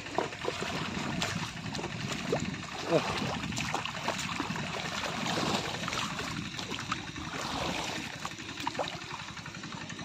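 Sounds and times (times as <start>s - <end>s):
muddy water sloshing and splashing: 0.0s - 10.0s.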